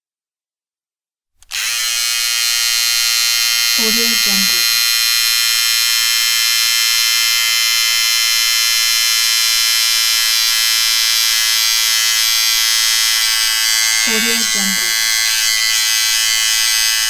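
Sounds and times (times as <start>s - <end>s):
electric appliance buzzing: 1.4s - 17.0s.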